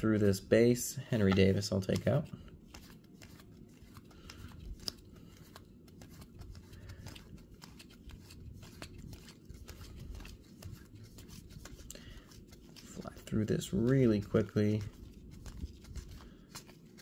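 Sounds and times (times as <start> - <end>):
trading cards being flipped: 1.2 - 17.0.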